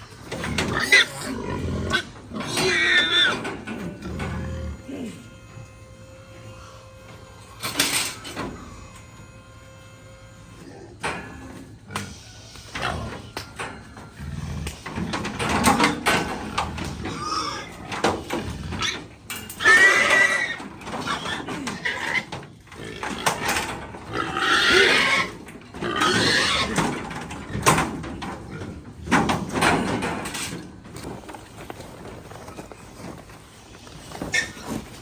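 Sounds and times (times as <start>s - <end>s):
pigs squealing: 0.0s - 9.0s, 10.6s - 30.4s.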